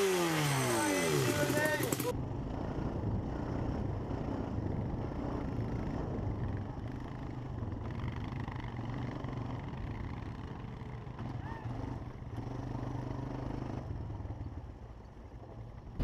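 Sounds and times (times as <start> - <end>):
road or wind noise: 1.2 - 16.0.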